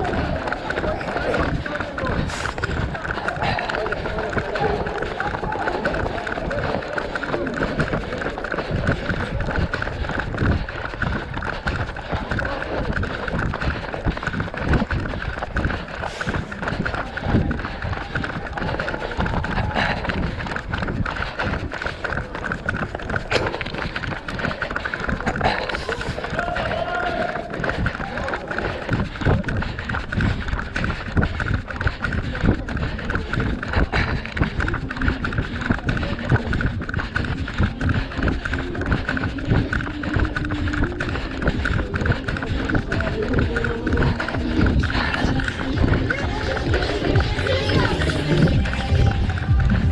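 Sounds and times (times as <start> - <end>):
running footsteps: 0.0 - 49.9.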